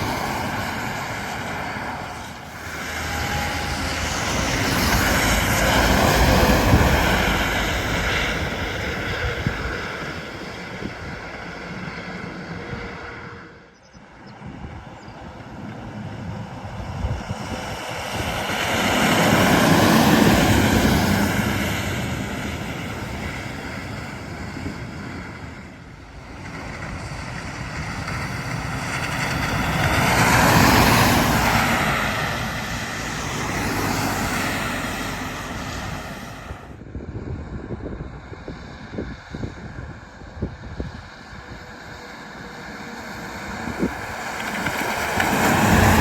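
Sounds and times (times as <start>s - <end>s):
heavy trucks passing: 0.0s - 13.7s, 14.4s - 36.8s, 38.2s - 46.0s.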